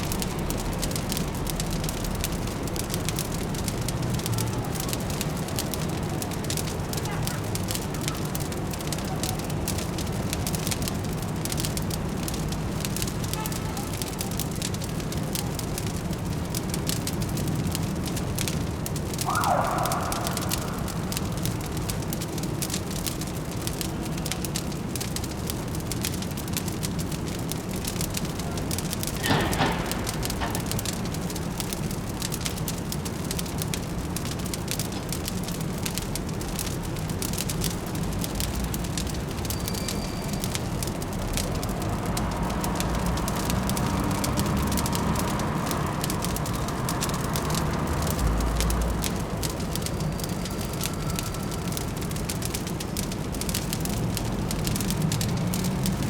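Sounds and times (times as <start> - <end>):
fireplace crackling: 0.0 - 56.0
low city rumble: 0.0 - 56.0.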